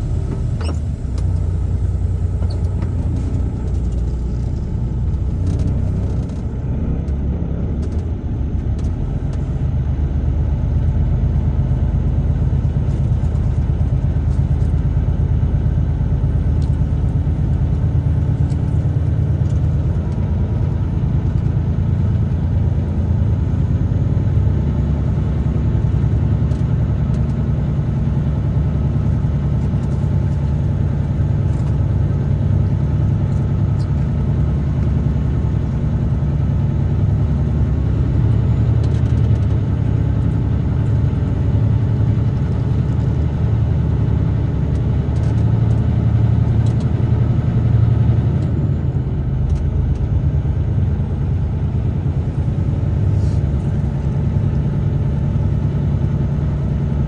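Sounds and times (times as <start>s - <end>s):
road rumble: 0.0s - 57.0s
truck engine: 0.0s - 57.0s.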